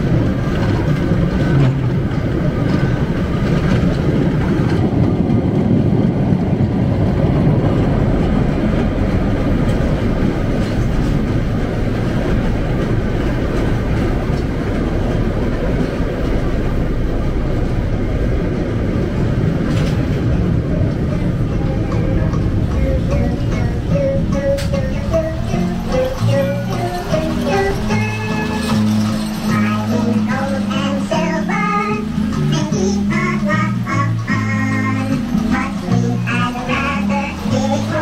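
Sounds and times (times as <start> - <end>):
ride train rumbling on track: 0.0 - 38.0.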